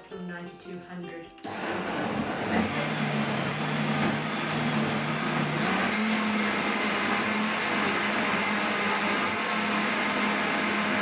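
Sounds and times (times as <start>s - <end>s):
blender motor running: 1.5s - 11.0s.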